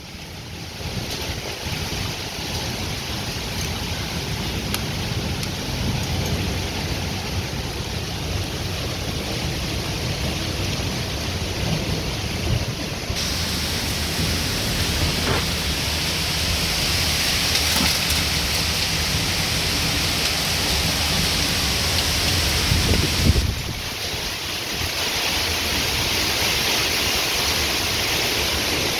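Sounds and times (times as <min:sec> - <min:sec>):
heavy rain hiss: 0:00.0 - 0:28.9
low wind rumble: 0:00.0 - 0:28.9.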